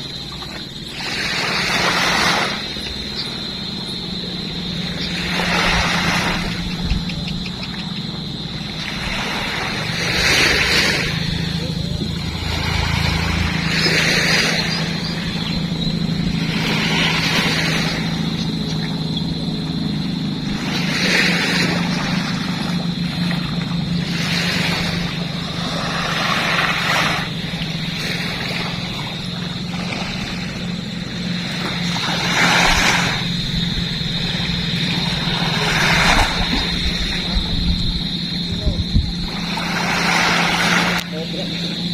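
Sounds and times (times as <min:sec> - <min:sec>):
low engine drone: 0:00.0 - 0:41.9
sea waves washing onto beach: 0:00.0 - 0:41.9.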